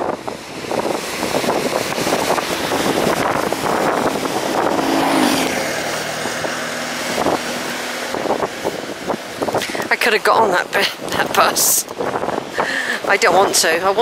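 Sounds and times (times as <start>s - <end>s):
bus engine running: 0.0s - 13.4s.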